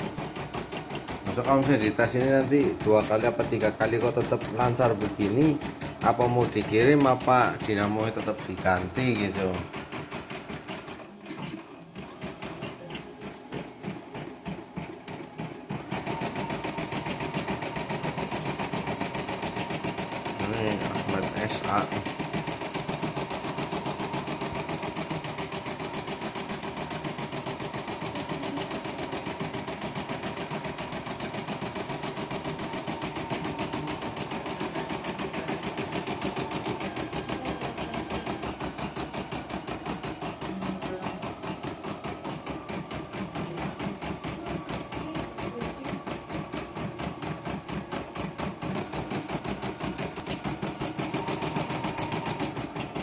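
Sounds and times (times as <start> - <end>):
embroidery machine stitching: 0.0 - 53.0.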